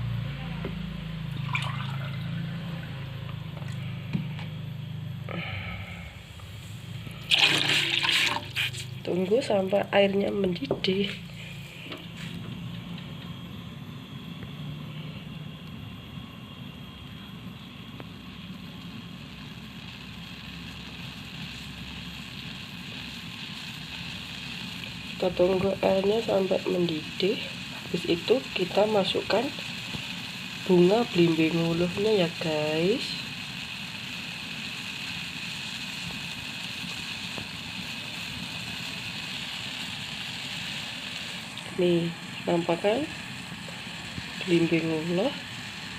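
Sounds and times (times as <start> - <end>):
low hum: 0.0 - 33.5, 38.9 - 45.9
water heating in a pot: 0.0 - 45.9
high hiss of nearly boiling water: 1.0 - 45.9.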